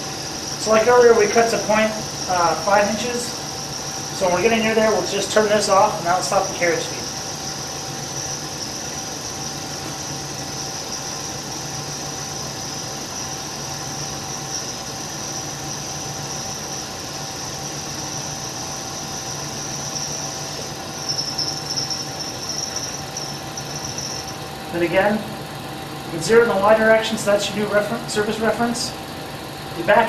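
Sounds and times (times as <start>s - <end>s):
lathe cutting with high squeal: 0.0s - 25.4s
low machine hum: 0.0s - 30.0s.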